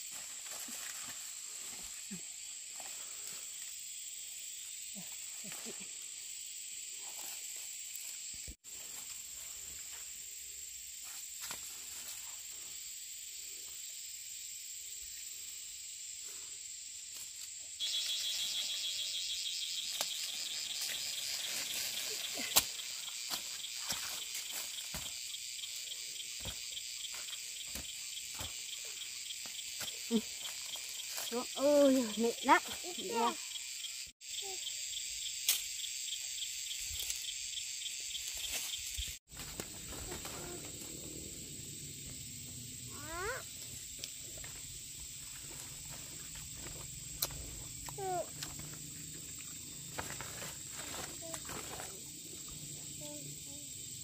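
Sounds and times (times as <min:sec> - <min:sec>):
insects chirring: 0:00.0 - 0:54.0
insect fast pulsing trill: 0:10.1 - 0:54.0.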